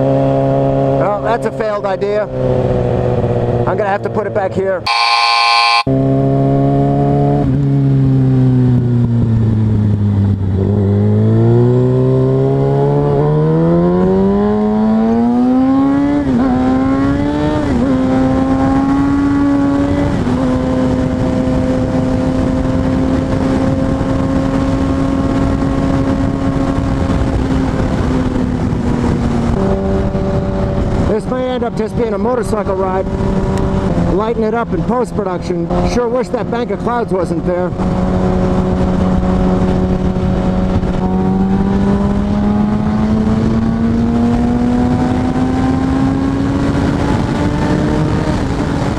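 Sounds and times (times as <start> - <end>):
motorcycle engine accelerating: 2.3 - 3.8, 4.9 - 34.9, 35.6 - 48.9.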